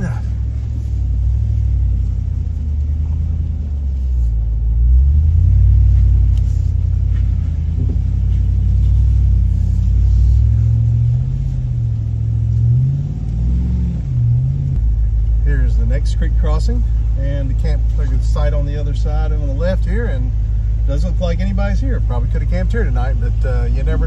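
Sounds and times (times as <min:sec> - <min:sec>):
truck engine low rumble: 0:00.0 - 0:24.0.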